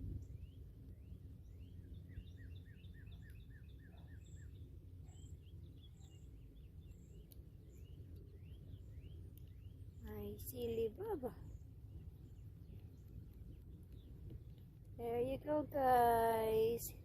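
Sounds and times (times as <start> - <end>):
low outdoor background rumble: 0.0 - 17.0
small birds chirping: 0.0 - 17.0.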